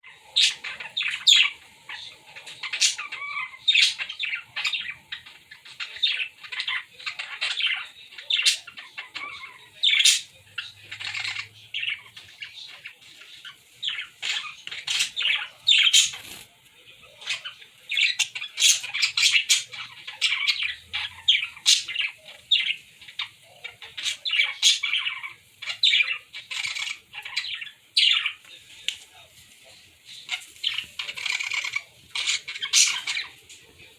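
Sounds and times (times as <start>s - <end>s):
birds chirping and squawking: 0.0s - 33.9s.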